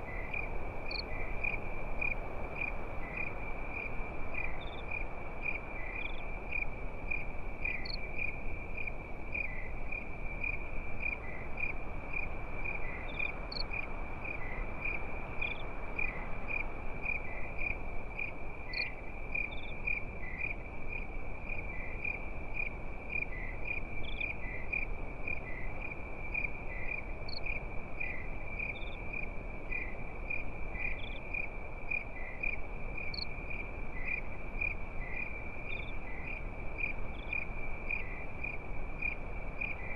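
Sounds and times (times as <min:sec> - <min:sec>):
crickets chirping: 0:00.0 - 0:39.9
low steady hiss: 0:00.0 - 0:39.9.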